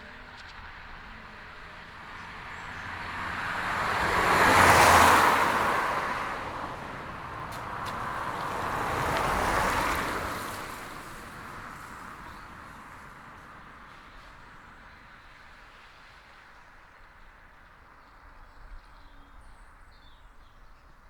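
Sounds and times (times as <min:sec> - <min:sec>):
cars passing with tyre noise: 0:00.0 - 0:19.8.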